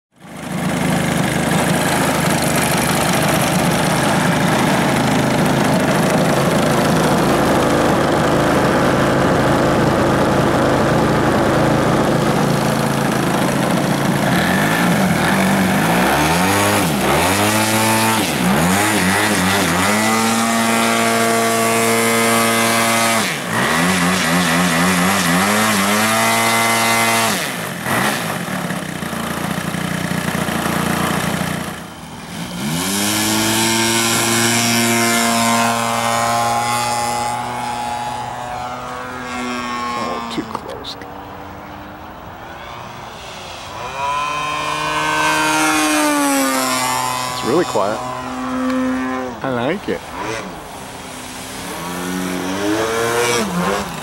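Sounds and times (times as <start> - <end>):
model plane gas engine running: 0.2 - 40.8, 42.8 - 54.0.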